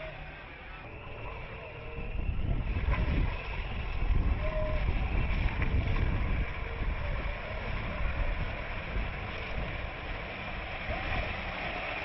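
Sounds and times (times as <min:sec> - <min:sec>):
vehicle rumbling: 0:00.0 - 0:12.0
wind buffeting microphone: 0:00.0 - 0:12.0.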